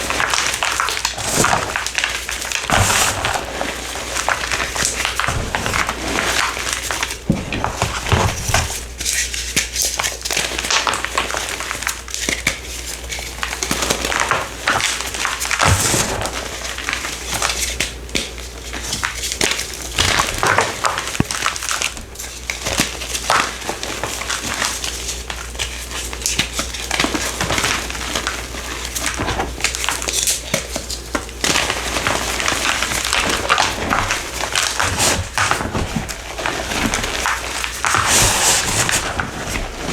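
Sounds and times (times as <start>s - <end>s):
powder block crunching by hand: 0.0s - 39.9s.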